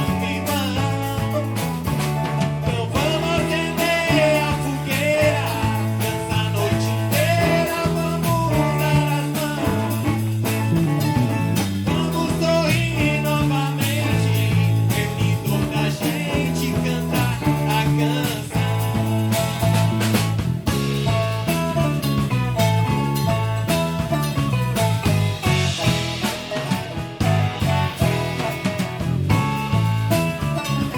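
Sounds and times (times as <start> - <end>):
drum kit: 0.0 - 30.9
electric bass: 0.0 - 30.9
electric guitar: 0.0 - 30.9
viola caipira: 0.0 - 30.9.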